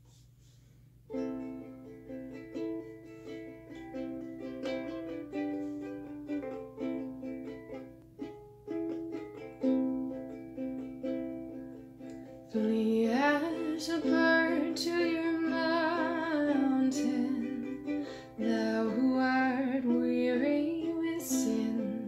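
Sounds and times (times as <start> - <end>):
ukulele playing slow chords: 1.1 - 22.0.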